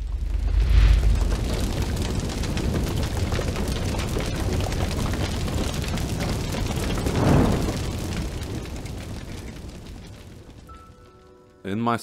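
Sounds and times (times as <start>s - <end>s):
fire crackling and rumbling: 0.0s - 11.6s.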